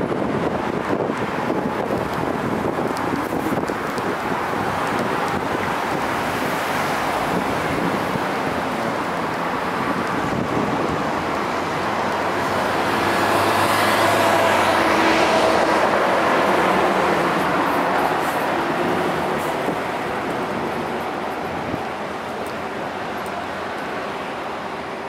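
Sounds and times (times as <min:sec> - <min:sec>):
heavy vehicle engine hum: 0:00.0 - 0:25.0
passing cars: 0:00.0 - 0:25.0.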